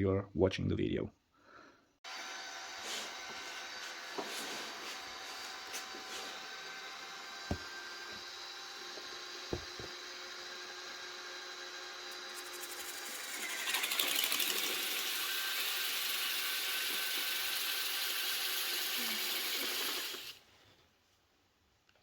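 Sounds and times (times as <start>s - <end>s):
robot vacuum motor whirring: 2.1s - 20.4s.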